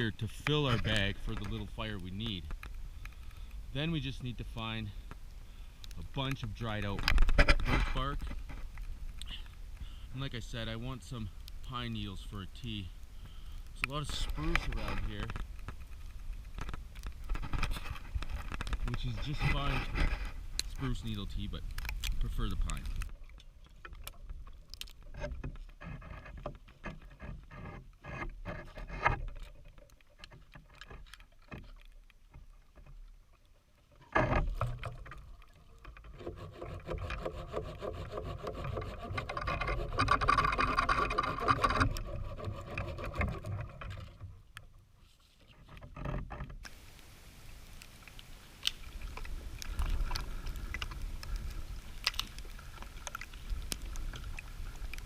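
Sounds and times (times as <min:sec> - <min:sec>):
wood rubbing and grinding: 0:00.0 - 0:33.2, 0:33.9 - 0:55.0.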